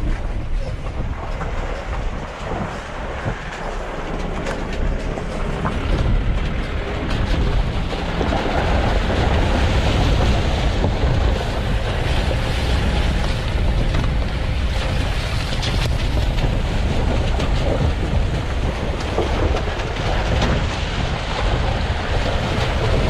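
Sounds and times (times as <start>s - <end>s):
water splashing against wheel: 0.0s - 23.0s.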